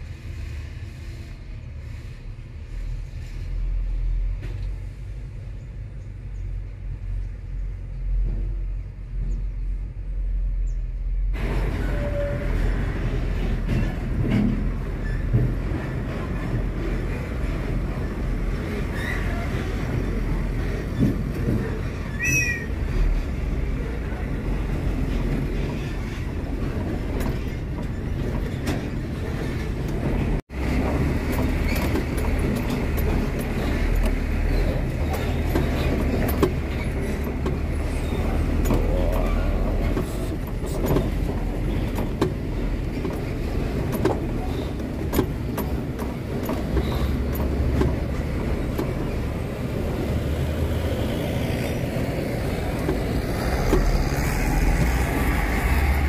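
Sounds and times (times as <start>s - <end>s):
truck diesel engine rumbling: 0.0s - 56.0s.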